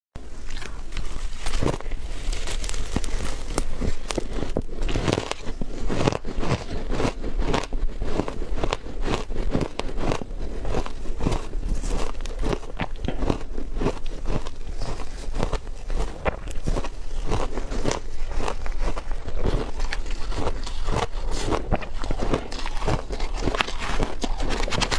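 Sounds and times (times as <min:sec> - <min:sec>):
crunching into frozen ice: 0:00.3 - 0:24.9.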